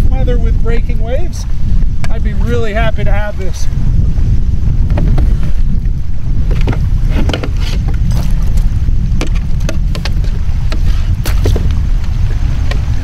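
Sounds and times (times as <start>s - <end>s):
wind rumbling on microphone: 0.0s - 13.0s
water splashing and sloshing: 1.3s - 13.0s.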